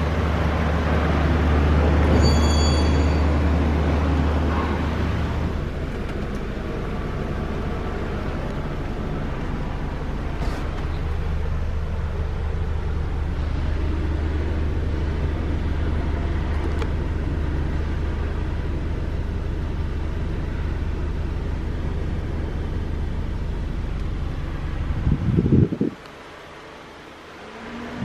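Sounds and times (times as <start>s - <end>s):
car engine idling: 0.0s - 2.1s, 3.0s - 28.0s.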